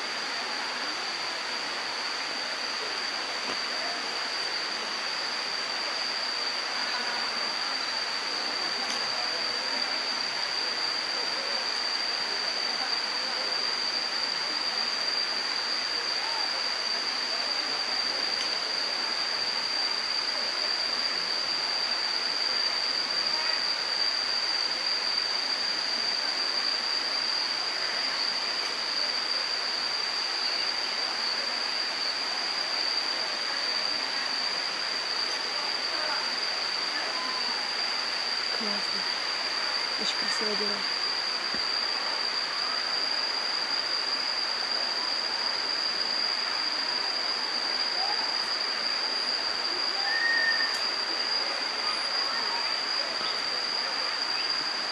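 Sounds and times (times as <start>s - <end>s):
constant high-pitched tone: 0.0s - 54.9s.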